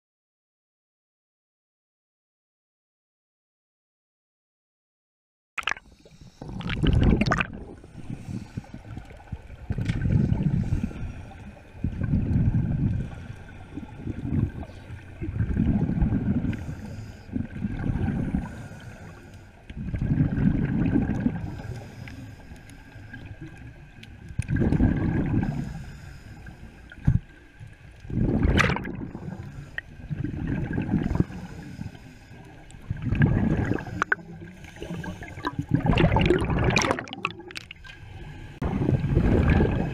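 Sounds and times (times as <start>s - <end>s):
low gurgling rumble: 5.6s - 22.4s, 23.1s - 39.9s
underwater exhaled bubbles: 5.6s - 39.9s.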